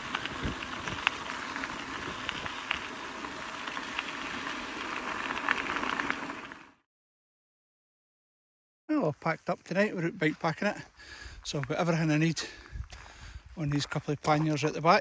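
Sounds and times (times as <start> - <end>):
bike tyres rolling on gravel: 0.0 - 6.8, 9.0 - 15.0.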